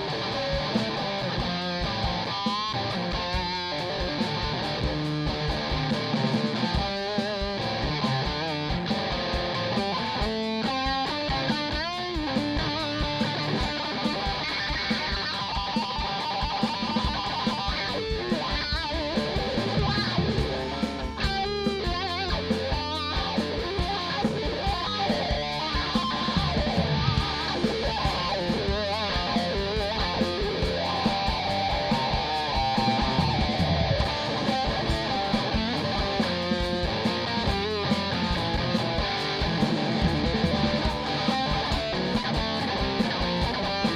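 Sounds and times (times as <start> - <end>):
electric guitar lead bending: 0.0 - 43.9
live rock band playing: 0.0 - 43.9.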